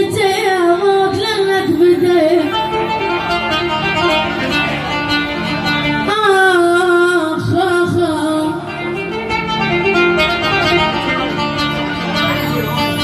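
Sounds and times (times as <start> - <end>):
ornamented song melody: 0.0 - 13.0
string accompaniment: 0.0 - 13.0.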